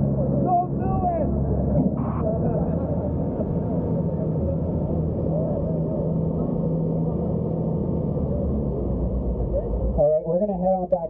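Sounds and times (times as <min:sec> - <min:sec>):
boat engine humming: 0:00.0 - 0:11.0
wind: 0:00.0 - 0:11.0.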